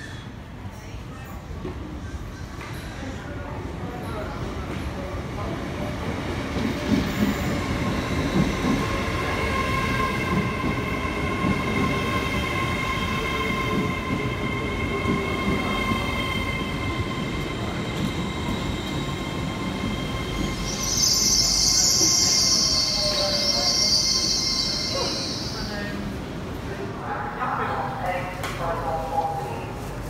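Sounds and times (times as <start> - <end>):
train carriages and wheels rumbling: 0.0 - 30.0.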